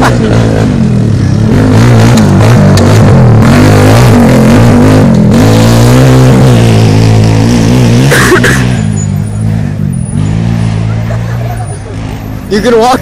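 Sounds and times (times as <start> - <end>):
off-road engines revving: 0.0 - 13.0.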